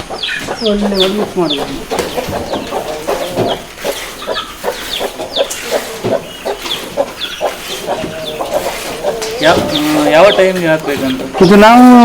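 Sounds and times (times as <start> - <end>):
chickens clucking: 0.0 - 12.0
high chirping notes: 0.0 - 12.0.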